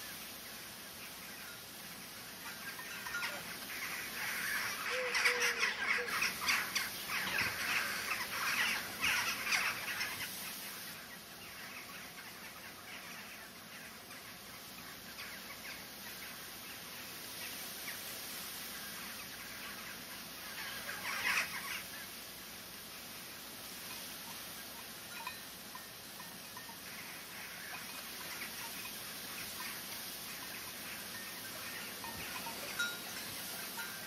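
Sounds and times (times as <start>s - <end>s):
birds calling: 0.0s - 18.0s, 18.9s - 22.2s, 26.2s - 34.0s.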